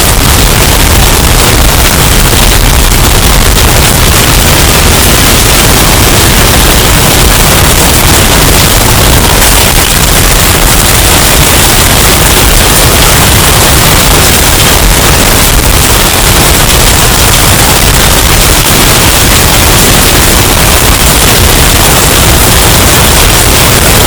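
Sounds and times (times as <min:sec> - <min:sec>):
distorted hurricane wind: 0:00.0 - 0:24.0.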